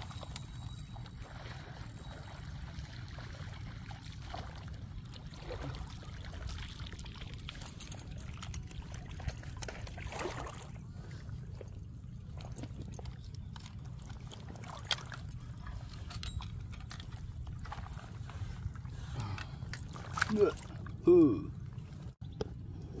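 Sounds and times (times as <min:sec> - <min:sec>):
water splashing and trickling: 0:00.0 - 0:22.6.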